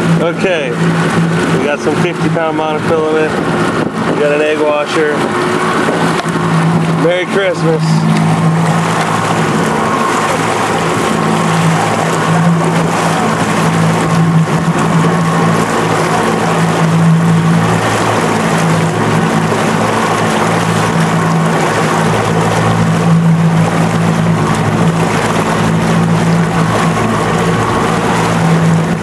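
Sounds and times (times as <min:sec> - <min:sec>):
churning wake rushing: 0:00.0 - 0:29.0
outboard motor running: 0:00.0 - 0:29.0
wind: 0:00.0 - 0:29.0.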